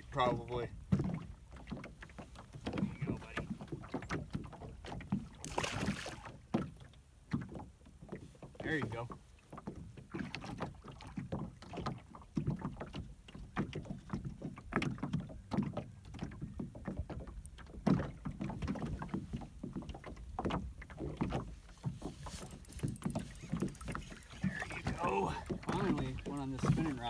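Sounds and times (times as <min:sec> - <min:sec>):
light wind: 0:00.0 - 0:27.0
waves lapping against boat hull: 0:00.0 - 0:27.0.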